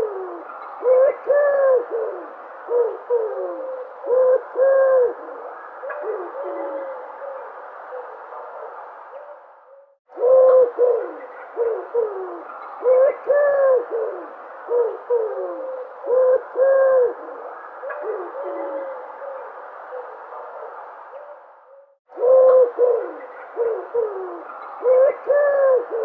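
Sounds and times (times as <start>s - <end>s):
background hiss: 0.0s - 26.0s
dove cooing: 0.0s - 26.0s.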